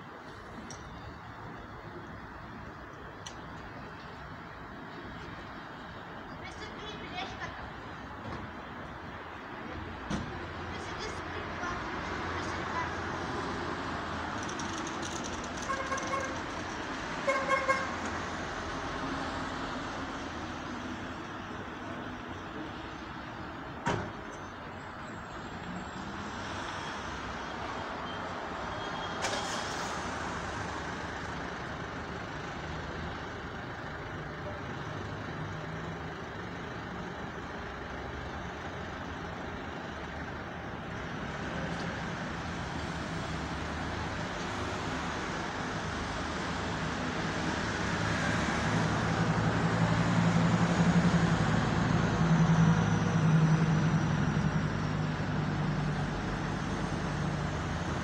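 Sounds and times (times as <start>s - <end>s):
road traffic: 0.0s - 58.0s.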